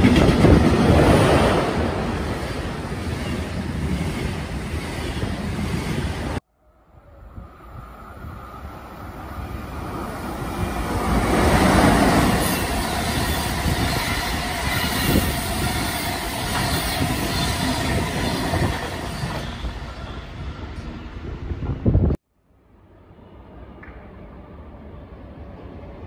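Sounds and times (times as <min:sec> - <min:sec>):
train wheels rushing on rails: 0:00.0 - 0:06.4, 0:07.4 - 0:22.2.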